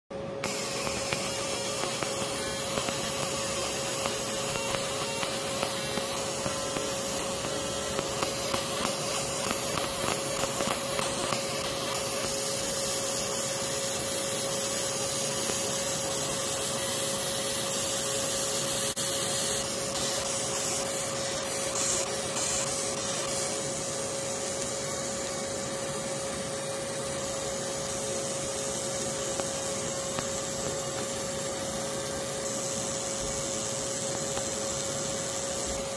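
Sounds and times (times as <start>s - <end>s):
laser engraver hissing with steady tone: 0.1s - 35.9s.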